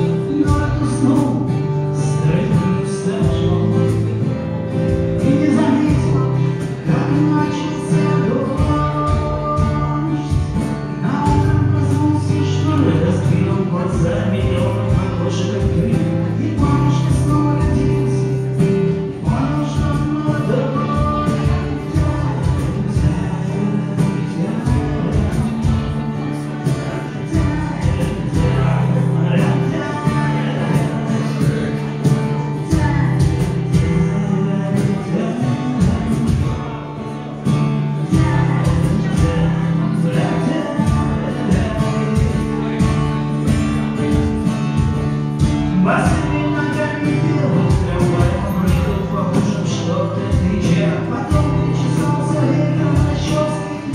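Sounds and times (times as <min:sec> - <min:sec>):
person singing: 0:00.0 - 0:53.9
strummed acoustic guitar: 0:00.0 - 0:53.9.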